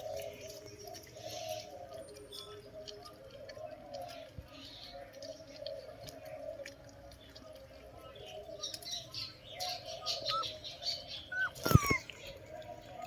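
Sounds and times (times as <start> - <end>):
puppies whimpering: 0.0 - 13.0.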